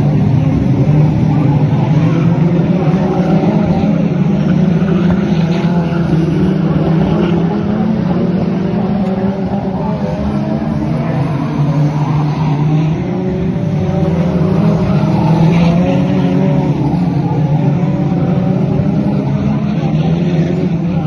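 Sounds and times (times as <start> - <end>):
stock car engine racing: 0.0 - 21.0.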